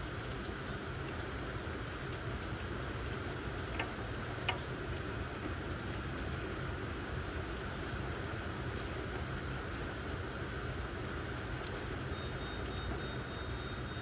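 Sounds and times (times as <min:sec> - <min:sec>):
sharp drips: 0:00.4 - 0:14.0.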